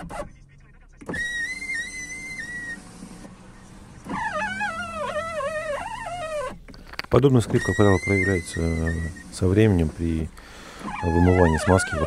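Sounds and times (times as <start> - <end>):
power window squealing: 0.0 - 0.3, 1.0 - 12.0.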